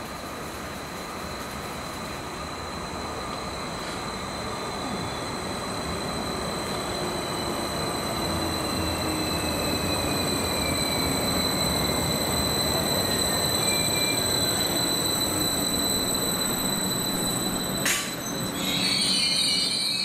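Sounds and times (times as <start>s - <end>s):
train rumble: 0.0s - 20.0s
high-pitched whine: 2.4s - 20.0s.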